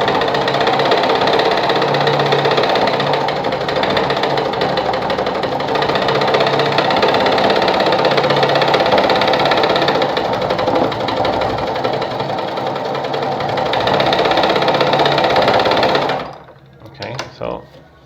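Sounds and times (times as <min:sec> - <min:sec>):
sewing machine running: 0:00.0 - 0:16.6.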